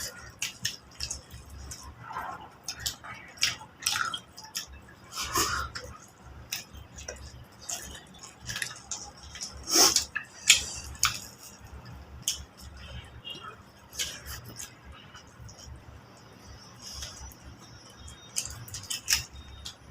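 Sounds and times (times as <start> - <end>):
wet chewing and smacking: 0.0 - 19.9.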